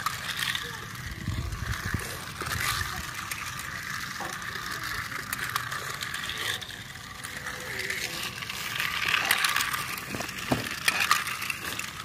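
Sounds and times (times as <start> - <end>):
toy car motor whirring: 0.0 - 12.0.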